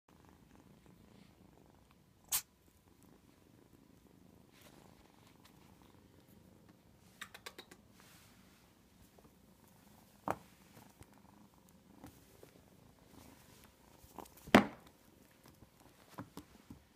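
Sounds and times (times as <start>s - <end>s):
kitten purring: 0.1s - 16.9s.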